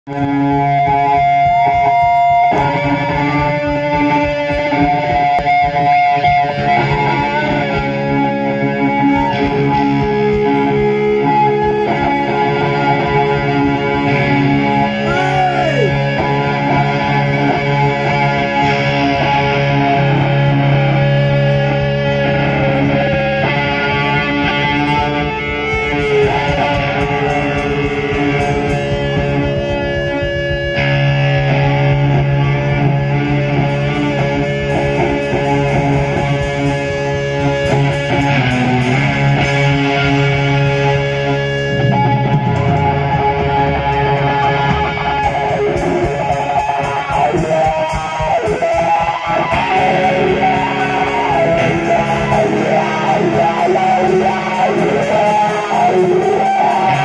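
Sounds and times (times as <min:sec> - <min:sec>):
guitar bending notes: 0:00.0 - 0:57.0
live rock band playing: 0:00.1 - 0:57.0.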